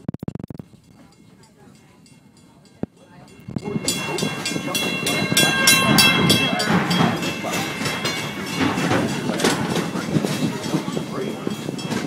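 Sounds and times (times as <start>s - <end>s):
steam train clattering on track: 0.7s - 12.0s.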